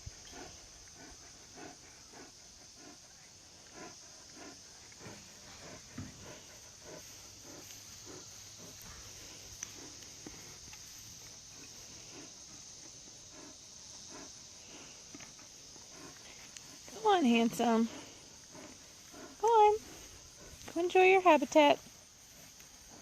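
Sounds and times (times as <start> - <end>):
insects chirring: 0.0 - 23.0
soft regular pulses: 0.0 - 23.0.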